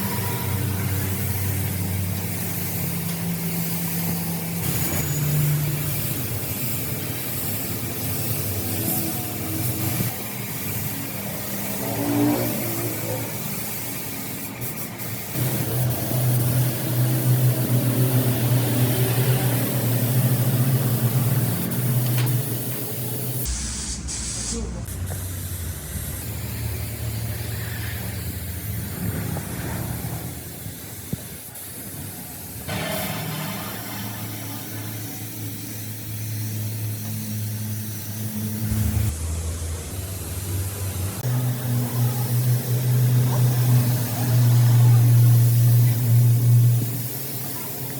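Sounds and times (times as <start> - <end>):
spraying hiss: 0.0 - 47.9.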